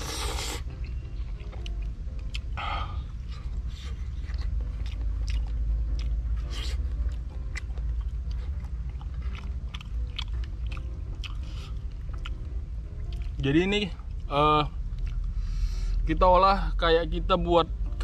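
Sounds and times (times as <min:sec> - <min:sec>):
chewing and crunching food: 0:00.0 - 0:15.4
steady low rumble: 0:00.0 - 0:18.0.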